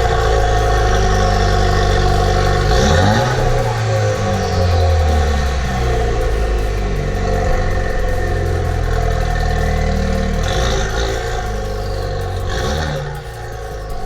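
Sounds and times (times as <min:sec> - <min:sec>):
car engine running loud: 0:00.0 - 0:14.0.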